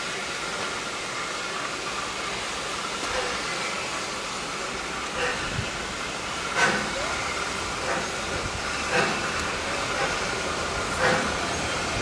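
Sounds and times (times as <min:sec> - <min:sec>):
steam hissing from locomotive: 0:00.0 - 0:12.0.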